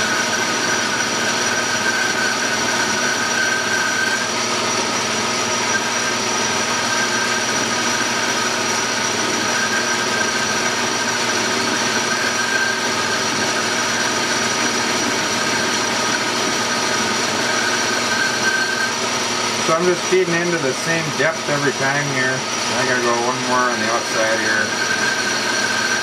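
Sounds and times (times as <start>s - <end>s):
metal lathe humming with high whine: 0.0s - 26.0s.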